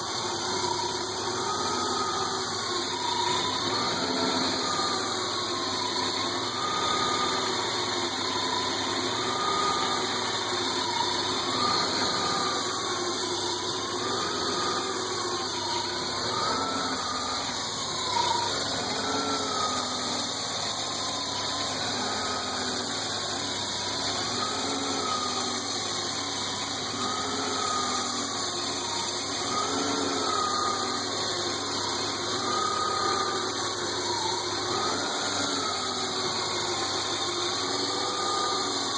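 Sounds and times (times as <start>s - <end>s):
rising and falling whine: 0.0s - 38.9s.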